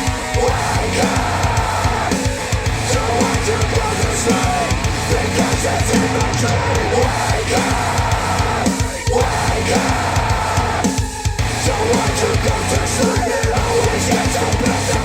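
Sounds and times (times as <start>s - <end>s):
rock music through speakers: 0.0s - 15.0s.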